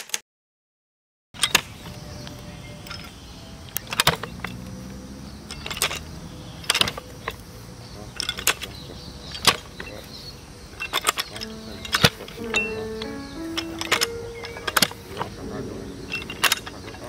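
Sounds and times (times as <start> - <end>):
low steady background noise: 1.4 - 17.0.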